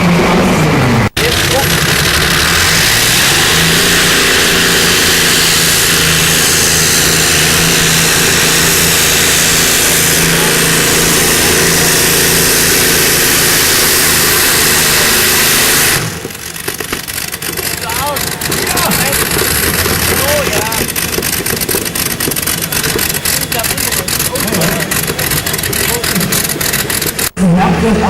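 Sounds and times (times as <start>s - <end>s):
tractor engines roaring: 0.0s - 28.0s.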